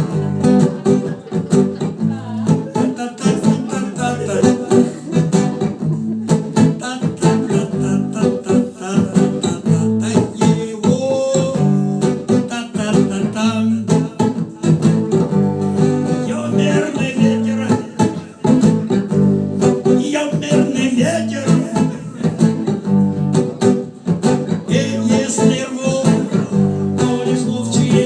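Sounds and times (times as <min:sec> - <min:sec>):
strummed guitar: 0:00.0 - 0:28.0.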